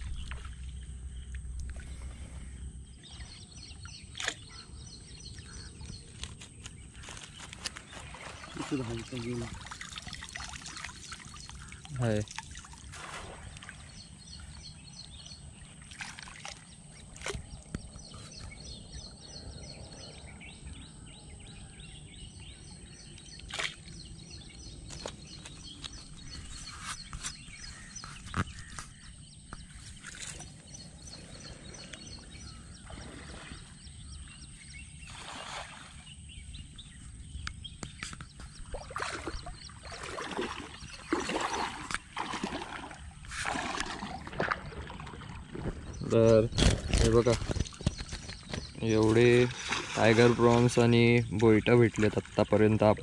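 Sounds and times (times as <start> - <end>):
wading through shallow water: 0.0 - 53.0.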